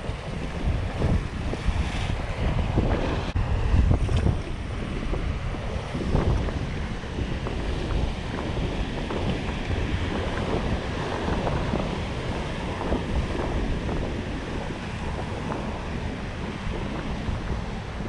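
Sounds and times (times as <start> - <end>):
surf washing over rocks: 0.0 - 18.0
wind buffeting microphone: 0.0 - 18.0.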